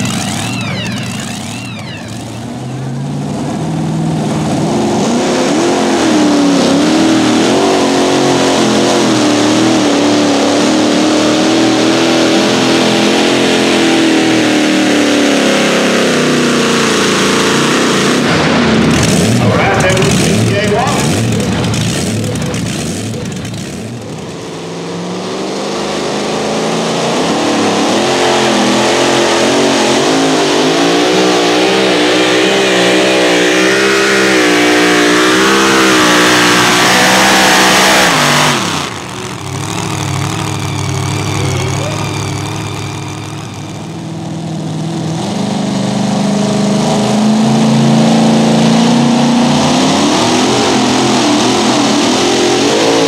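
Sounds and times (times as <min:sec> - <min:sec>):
supercharged truck engines at full throttle: 0:00.0 - 0:53.0.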